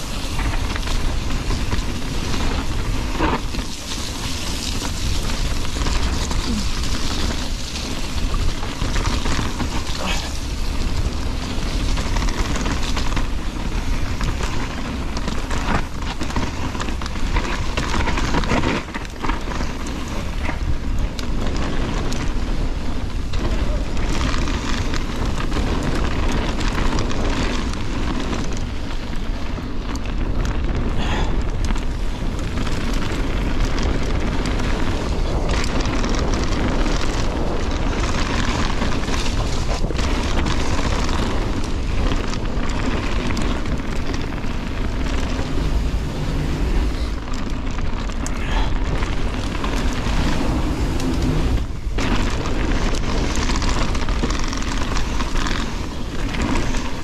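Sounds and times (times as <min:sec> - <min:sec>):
bike rattling and knocking: 0:00.0 - 0:57.0
tyres crunching on loose stones: 0:00.0 - 0:57.0
wind buffeting microphone: 0:00.0 - 0:57.0.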